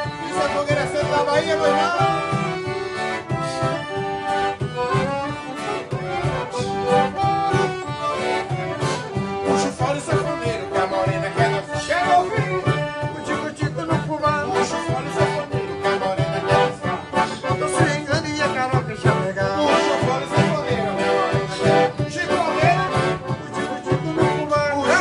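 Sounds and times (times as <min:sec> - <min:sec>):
accordion: 0:00.0 - 0:25.0
low drum beat: 0:00.0 - 0:25.0.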